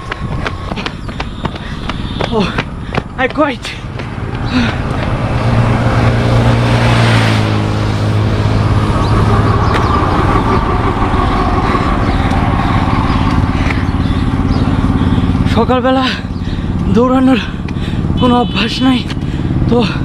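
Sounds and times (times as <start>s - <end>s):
higher engine whine: 0.0s - 19.8s
vehicle engine drone: 0.0s - 20.0s.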